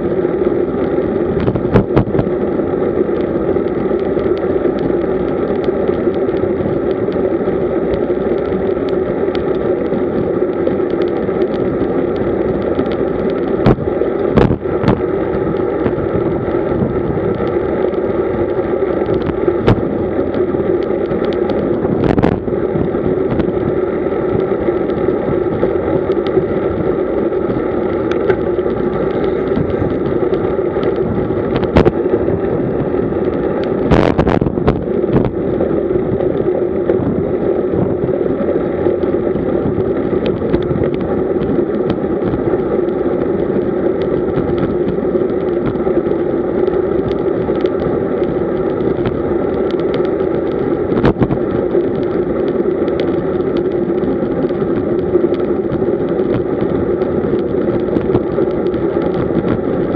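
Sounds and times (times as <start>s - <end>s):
road noise: 0.0s - 59.9s
wind rush: 0.0s - 59.9s.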